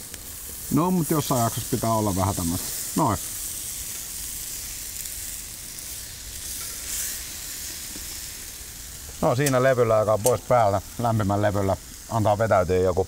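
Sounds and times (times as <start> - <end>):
steaks sizzling on a griddle: 0.0 - 13.0.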